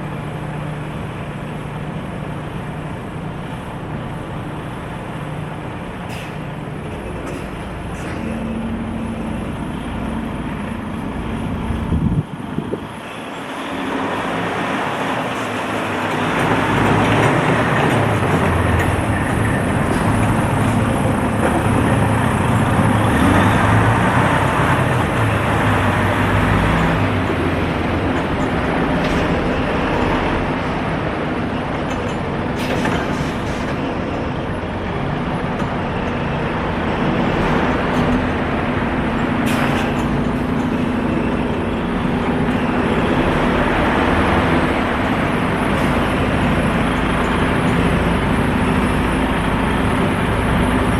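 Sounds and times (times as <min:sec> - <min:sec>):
vehicle road noise: 0:00.0 - 0:50.9.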